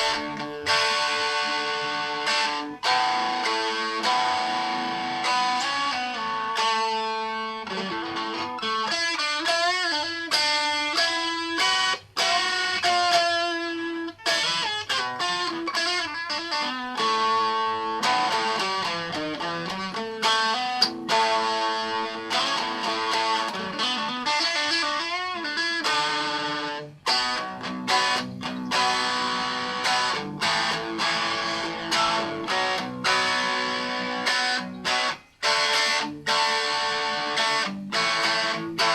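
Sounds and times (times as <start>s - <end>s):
electric guitar lead melody: 0.0s - 38.9s.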